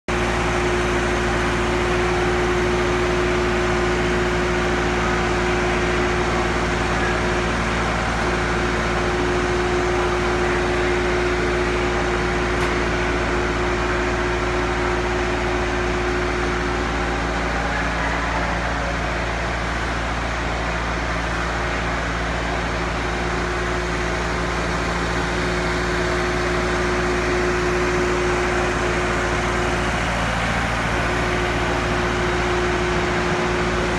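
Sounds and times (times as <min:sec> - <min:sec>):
machinery drone: 0:00.1 - 0:33.9.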